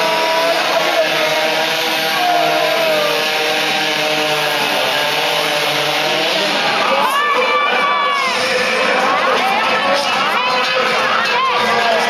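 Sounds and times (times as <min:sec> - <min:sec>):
chainsaws cutting logs: 0:00.0 - 0:12.0.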